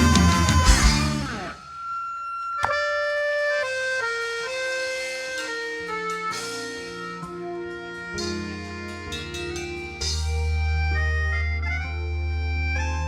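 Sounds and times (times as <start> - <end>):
loud band music: 0.0 - 1.6, 3.0 - 12.0
slow keyboard music: 0.0 - 13.0.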